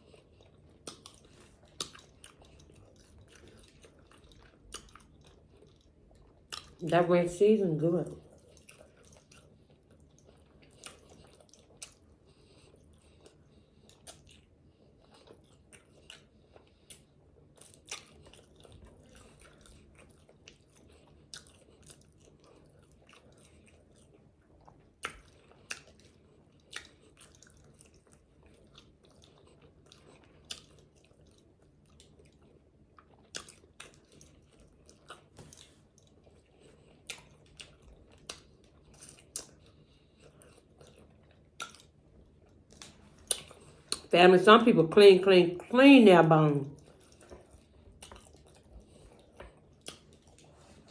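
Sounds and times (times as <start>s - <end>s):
chewing and biting: 0.0s - 6.8s, 8.2s - 44.1s, 46.8s - 50.9s.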